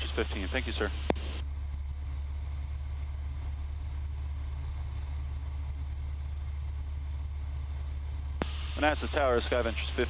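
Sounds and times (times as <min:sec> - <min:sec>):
light aircraft engine droning: 0:00.0 - 0:10.0.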